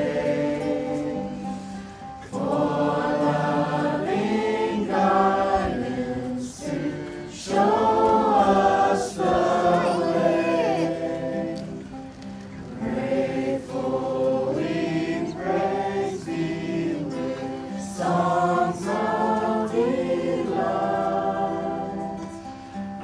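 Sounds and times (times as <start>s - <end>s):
group of people singing: 0.0s - 23.0s.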